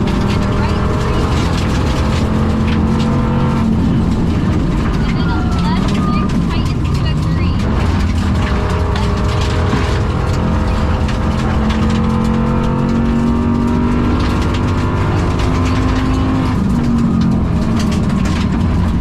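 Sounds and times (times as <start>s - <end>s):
clicks and knocks from road surface: 0.0s - 19.0s
misfiring car engine from inside cabin: 0.0s - 19.0s.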